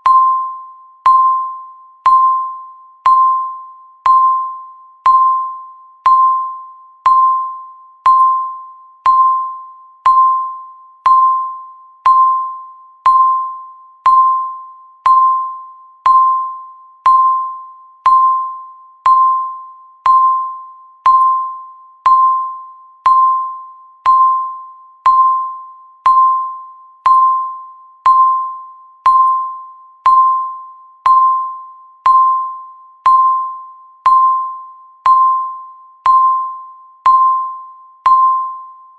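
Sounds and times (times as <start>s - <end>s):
timer electronic beeps: 0.0s - 38.9s.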